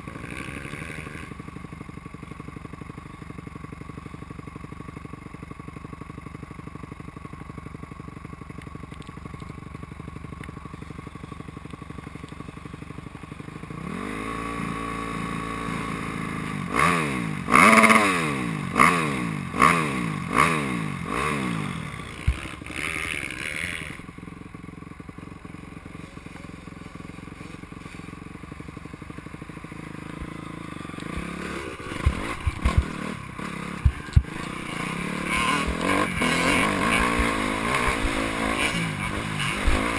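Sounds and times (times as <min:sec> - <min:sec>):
motocross bike engine revving: 0:00.0 - 0:04.3, 0:09.0 - 0:39.9.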